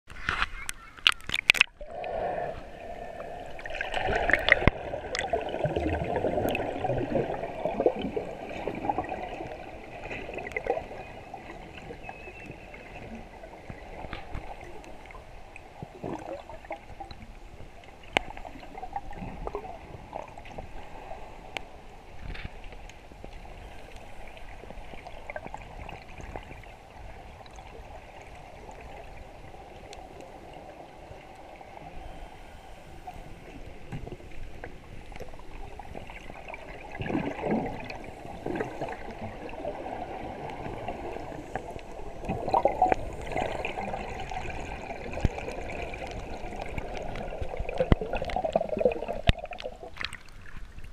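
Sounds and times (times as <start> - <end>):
muffled underwater water rush: 0.1 - 50.9.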